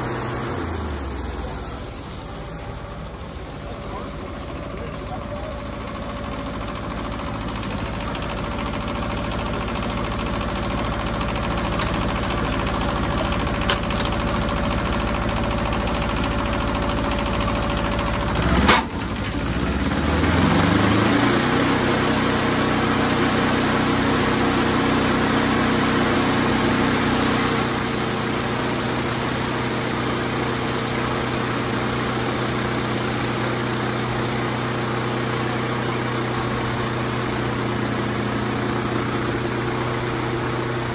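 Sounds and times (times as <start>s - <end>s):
sawmill engine idling and revving: 0.0s - 40.9s.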